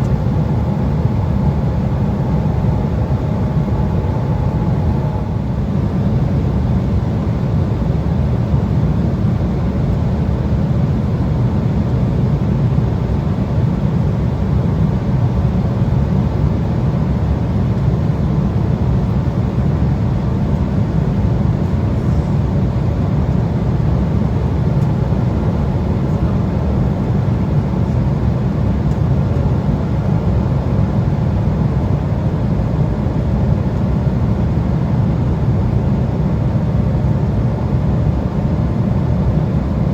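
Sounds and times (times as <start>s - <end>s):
jet cabin engine roar: 0.0s - 39.9s.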